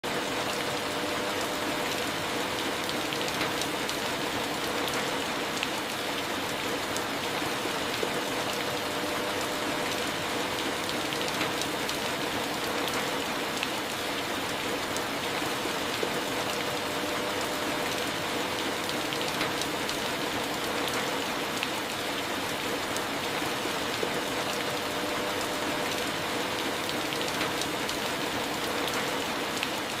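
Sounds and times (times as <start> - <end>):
rain on a tin roof: 0.0 - 30.0.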